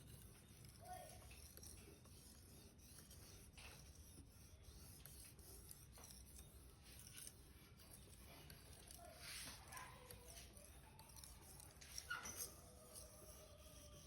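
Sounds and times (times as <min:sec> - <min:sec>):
knife blade scraping a sharpener: 0:00.0 - 0:14.0.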